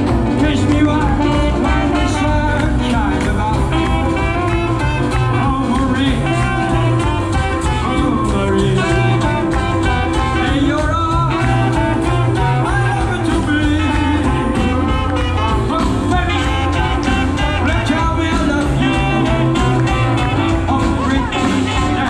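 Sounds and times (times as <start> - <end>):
live band playing jazz music: 0.0 - 22.0.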